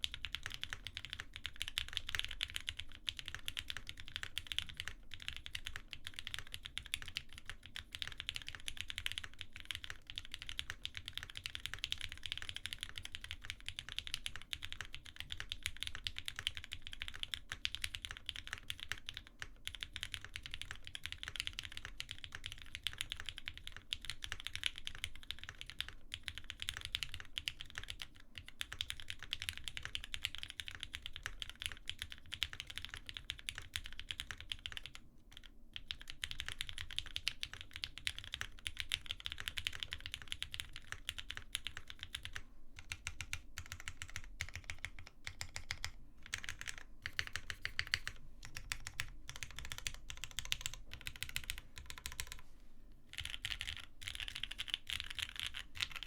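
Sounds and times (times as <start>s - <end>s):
typing on mechanical keyboard: 0.0s - 52.4s, 53.1s - 56.0s.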